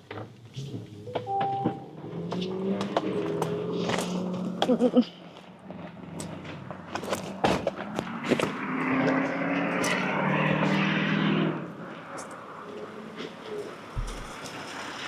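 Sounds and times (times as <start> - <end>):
steady vehicle hum: 0.0 - 15.0.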